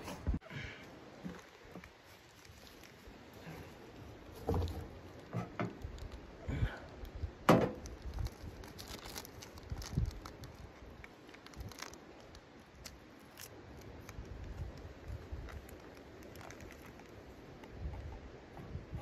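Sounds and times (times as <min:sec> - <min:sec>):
tea bag rustling and crinkling: 0:01.1 - 0:18.3.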